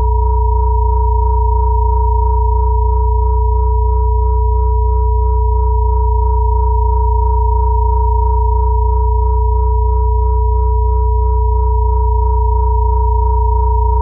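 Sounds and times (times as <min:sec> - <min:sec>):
deep sine hum: 0:00.0 - 0:14.0
high sine tone: 0:00.0 - 0:14.0
middle sine tone: 0:00.0 - 0:14.0.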